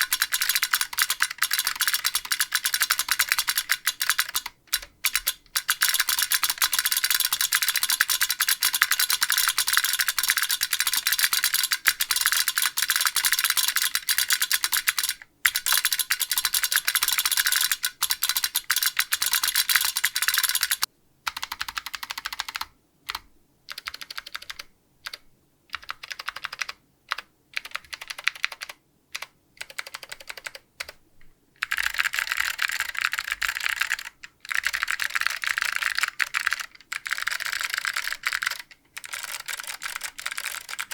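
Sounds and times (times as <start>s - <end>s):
fast clicky keyboard typing: 0.0s - 31.0s, 31.6s - 40.9s.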